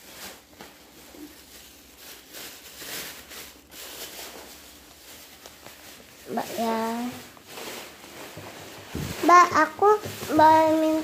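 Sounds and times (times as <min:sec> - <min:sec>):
quiet rustling and handling: 0:00.0 - 0:11.0.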